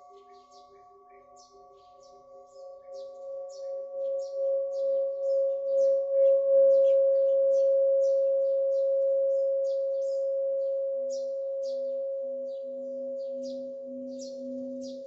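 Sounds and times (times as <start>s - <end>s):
singing bowl ringing: 0.0s - 15.0s
small birds chirping: 0.0s - 15.0s.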